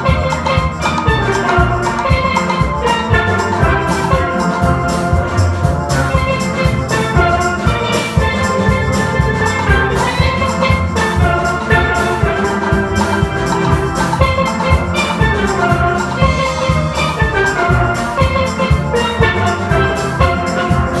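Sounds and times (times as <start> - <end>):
steady drum beat: 0.0 - 21.0
steel band playing: 0.0 - 21.0.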